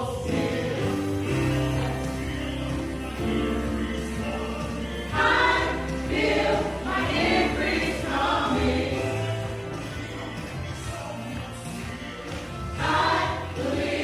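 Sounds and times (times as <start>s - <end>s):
gospel choir singing: 0.0s - 14.0s
keyboard and bass accompaniment: 0.0s - 14.0s.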